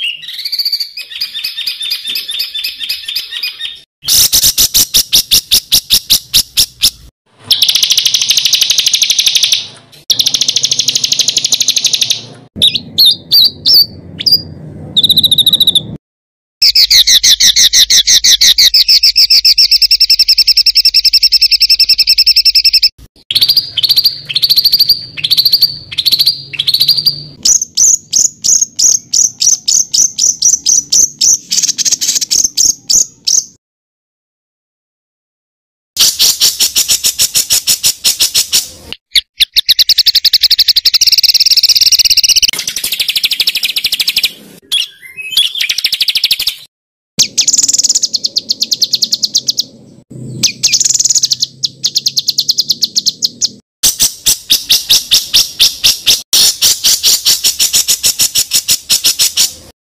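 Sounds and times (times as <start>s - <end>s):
songbird trilling and chattering: 0.0s - 16.0s, 16.6s - 33.6s, 36.0s - 59.6s.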